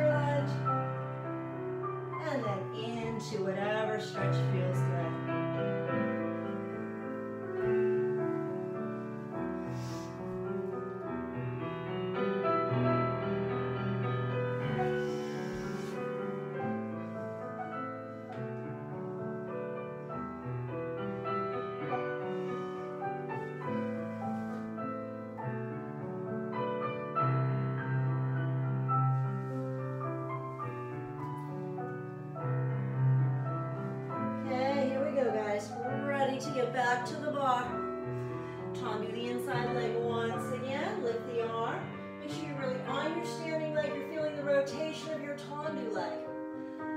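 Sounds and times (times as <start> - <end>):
slow classical solo piano: 0.0 - 46.9.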